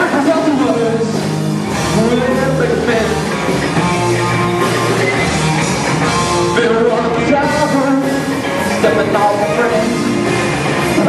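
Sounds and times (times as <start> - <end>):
drums: 0.0 - 11.0
electric guitar with bending notes: 0.0 - 11.0.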